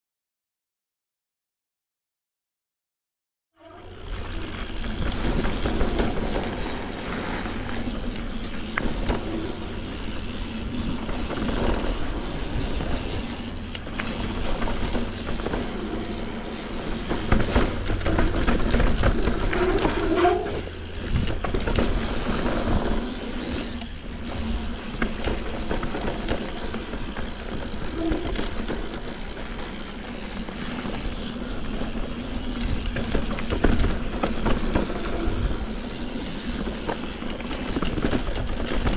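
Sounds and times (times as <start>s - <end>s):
bike knocking and rattling: 3.6s - 38.9s
bike tyres rumbling on dirt: 3.6s - 38.9s.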